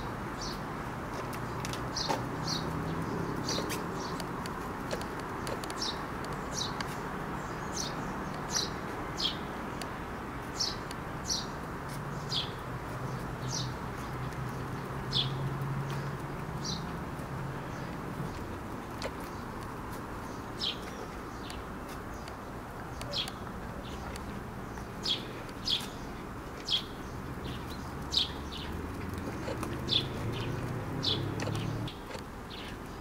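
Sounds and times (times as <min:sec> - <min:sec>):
small bird chirping: 0:01.6 - 0:17.0, 0:17.6 - 0:33.0.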